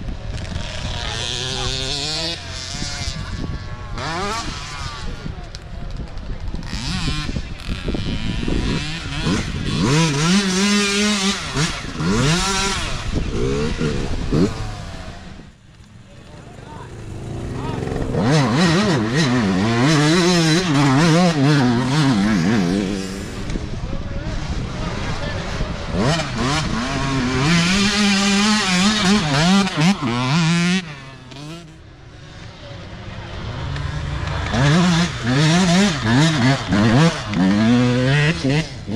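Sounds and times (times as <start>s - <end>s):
dirt bike engine revving: 0.0s - 5.6s, 6.2s - 38.9s.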